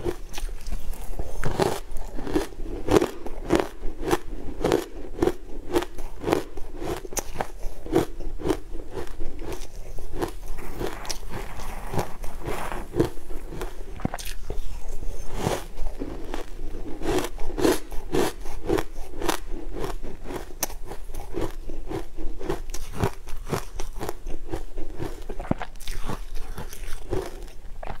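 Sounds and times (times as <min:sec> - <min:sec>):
crunching and chewing ice: 0:00.0 - 0:28.0.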